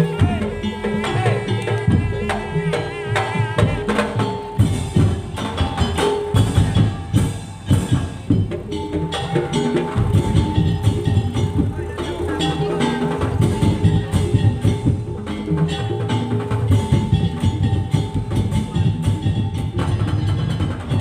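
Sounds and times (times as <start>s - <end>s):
slit drums and drums beating: 0.0s - 21.0s
wavering melody line: 0.0s - 21.0s.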